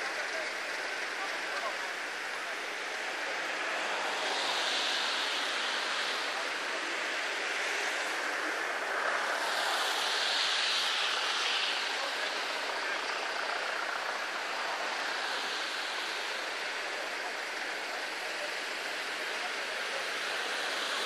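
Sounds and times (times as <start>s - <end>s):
steady outdoor rushing noise: 0.0s - 21.0s.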